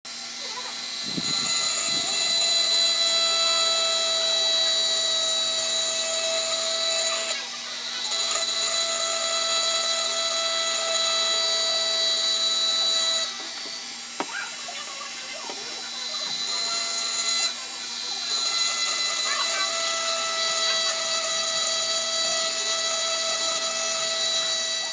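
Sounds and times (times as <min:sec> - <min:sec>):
rotary tool grinding glass: 0:00.1 - 0:24.9.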